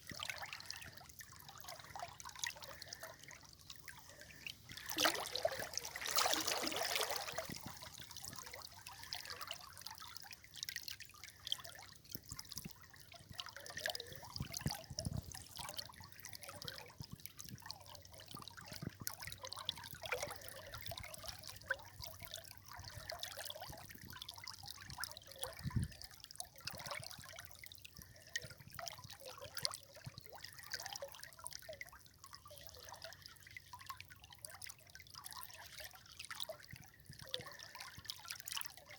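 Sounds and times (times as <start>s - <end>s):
river water trickling over stones: 0.0s - 38.9s.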